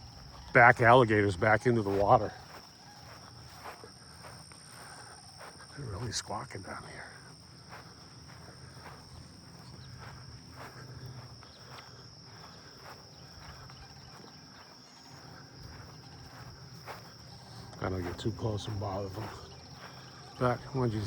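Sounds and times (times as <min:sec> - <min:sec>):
insects droning: 0:00.0 - 0:21.0
cranes calling faintly: 0:01.8 - 0:05.9, 0:06.6 - 0:21.0.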